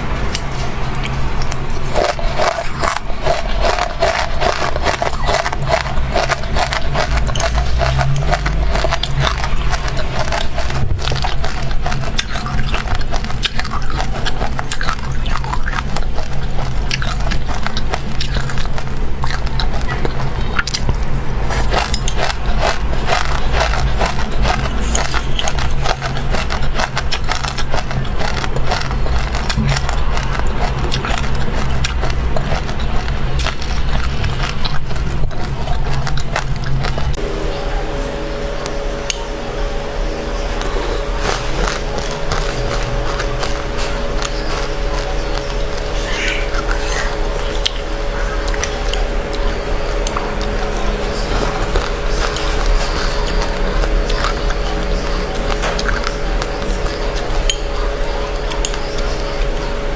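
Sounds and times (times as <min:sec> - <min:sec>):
crunching and chewing seeds: 0:00.0 - 0:37.6, 0:38.3 - 0:59.9.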